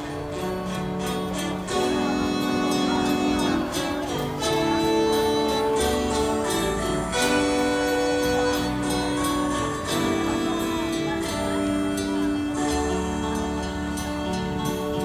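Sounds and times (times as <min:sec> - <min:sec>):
instrumental music with steady beat: 0:00.0 - 0:15.0.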